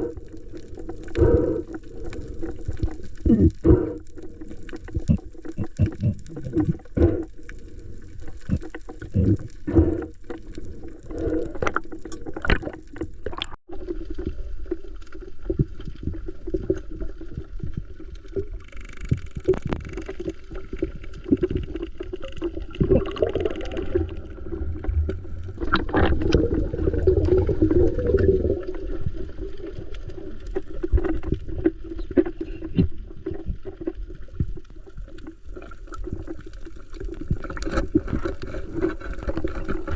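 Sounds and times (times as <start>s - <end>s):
muffled water sloshing and bubbling: 0.0s - 39.9s.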